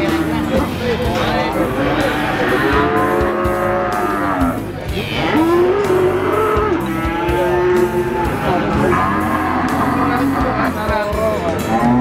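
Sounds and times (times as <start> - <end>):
background music: 0.0 - 12.0
cattle mooing: 1.6 - 12.0.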